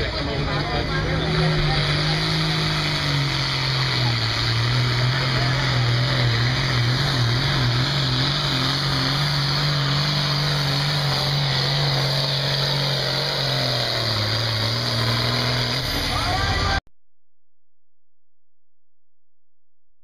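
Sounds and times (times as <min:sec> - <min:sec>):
diesel tractor engine under load: 0:00.0 - 0:16.8.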